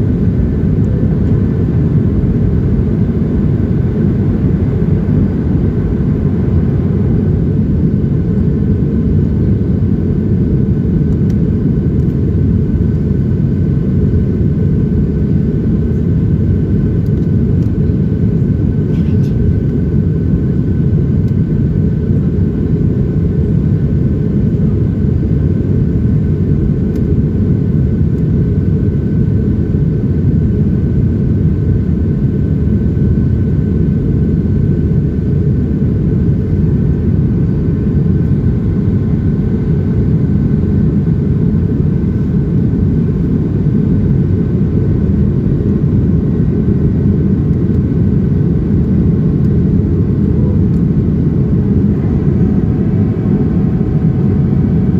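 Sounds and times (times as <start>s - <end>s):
faint steady whine: 0.0s - 54.9s
jet engine cabin rumble: 0.0s - 54.9s.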